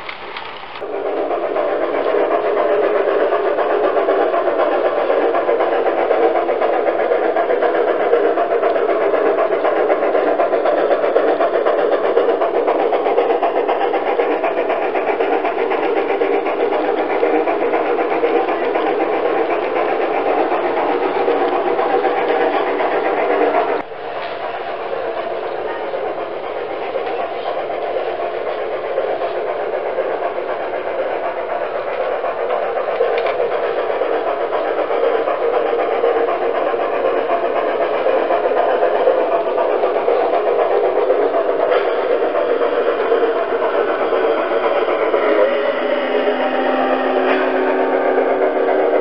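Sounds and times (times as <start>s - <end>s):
model train rolling on track: 0.0s - 49.0s.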